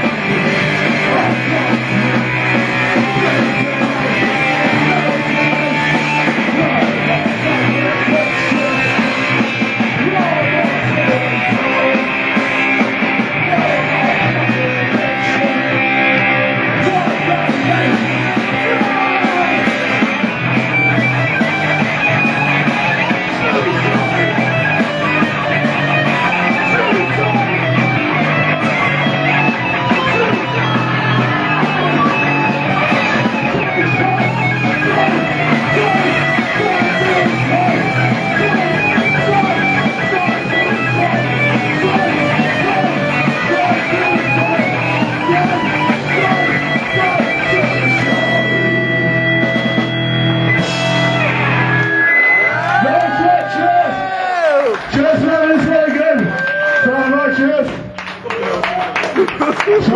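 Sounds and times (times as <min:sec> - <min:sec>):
bass line: 0:00.0 - 0:59.9
electric guitar: 0:00.0 - 0:59.9.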